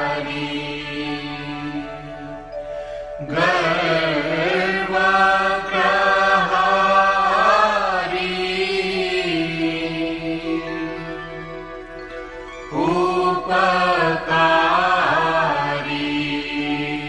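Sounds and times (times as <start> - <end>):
held accompaniment tones: 0.0 - 17.0
person chanting melodically: 0.0 - 17.0.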